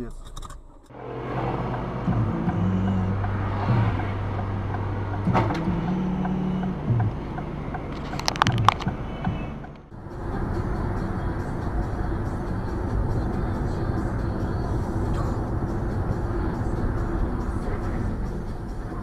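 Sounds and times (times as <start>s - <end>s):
road and engine noise: 0.0s - 19.0s.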